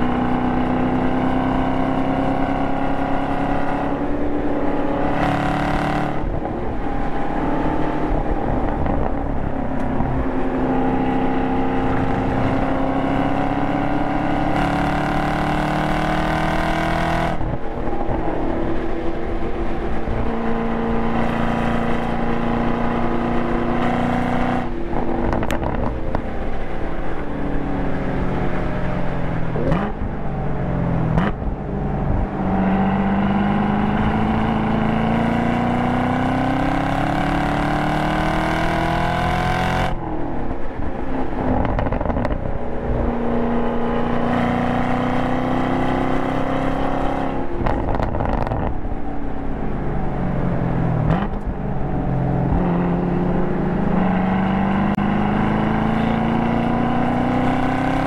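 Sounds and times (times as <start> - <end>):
car engine under hard driving: 0.0 - 58.0.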